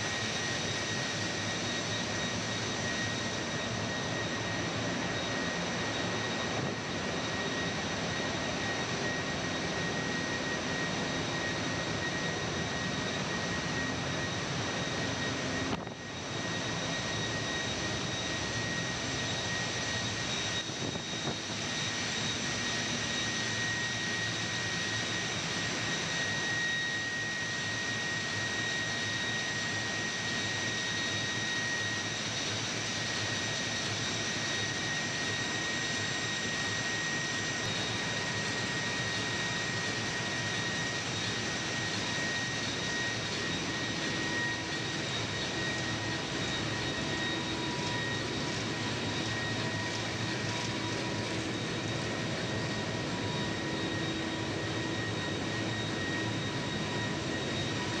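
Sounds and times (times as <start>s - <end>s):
constant high whine: 0.0s - 58.0s
engine room machinery noise: 0.0s - 58.0s.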